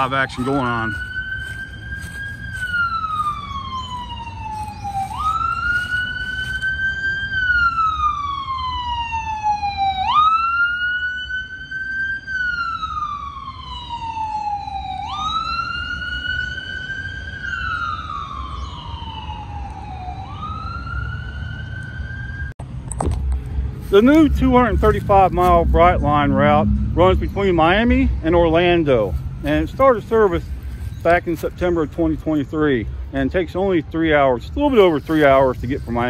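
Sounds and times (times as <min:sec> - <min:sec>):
electronic siren wailing: 0:00.0 - 0:22.5, 0:23.8 - 0:32.2
low rumble of vehicle engines: 0:00.0 - 0:36.0.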